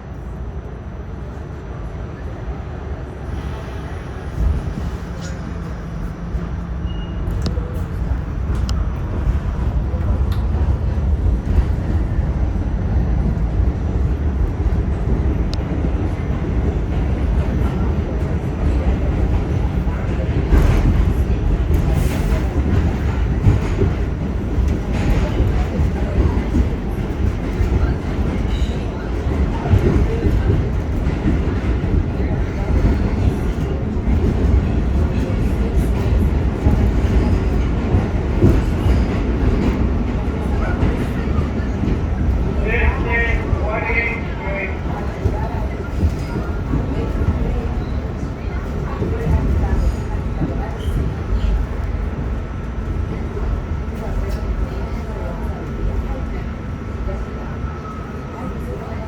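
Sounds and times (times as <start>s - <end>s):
subway car rumbling in tunnel: 0.0s - 59.0s.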